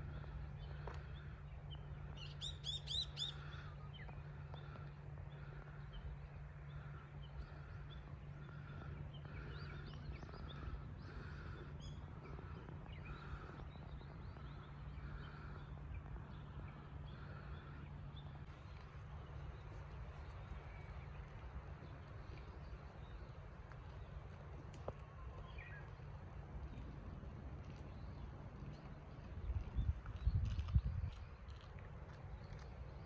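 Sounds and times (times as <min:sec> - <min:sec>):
low background rumble: 0:00.0 - 0:33.0
small birds chirping: 0:00.1 - 0:33.0.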